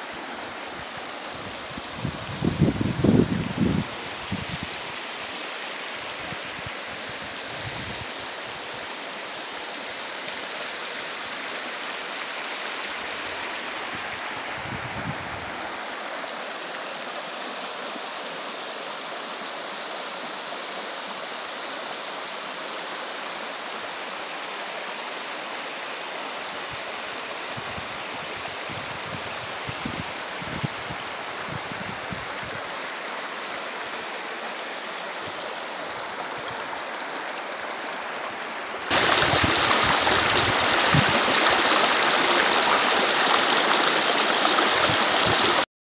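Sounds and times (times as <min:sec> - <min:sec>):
stream flowing over stones: 0:00.0 - 0:45.7.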